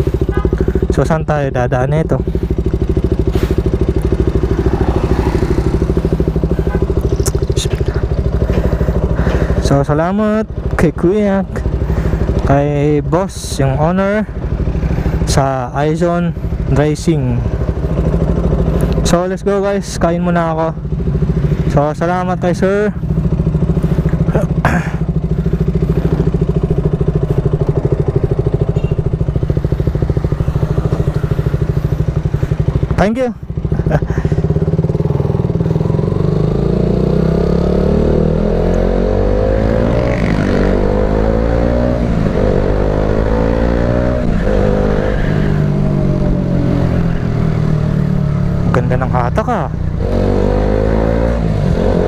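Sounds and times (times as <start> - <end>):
motorcycle engine idling: 0.0 - 39.0, 40.0 - 52.0.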